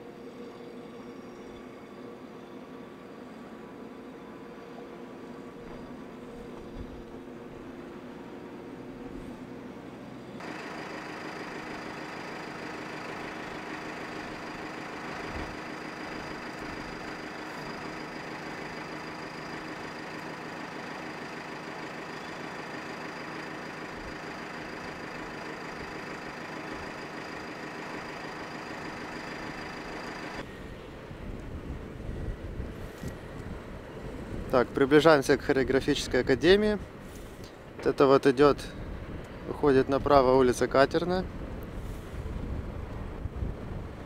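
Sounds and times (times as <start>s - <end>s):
construction machine engine running: 0.0s - 44.0s.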